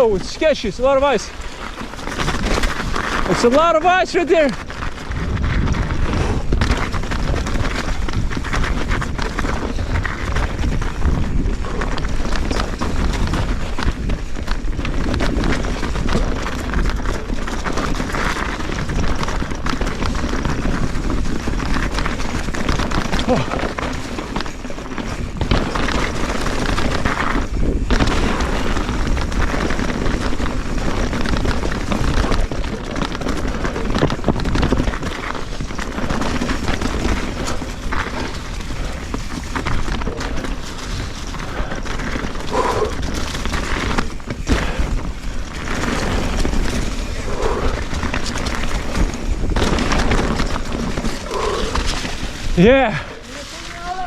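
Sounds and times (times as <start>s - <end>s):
bike knocks and rattles: 0.0s - 54.0s
bike tyres rolling: 0.0s - 54.0s
wind buffeting microphone: 4.5s - 54.0s.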